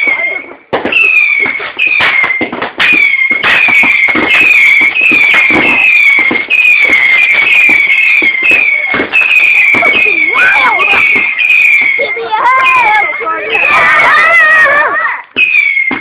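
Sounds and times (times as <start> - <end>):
firework whistles: 0.0 - 14.3, 15.3 - 16.0
firework cracks and bangs: 0.0 - 16.0.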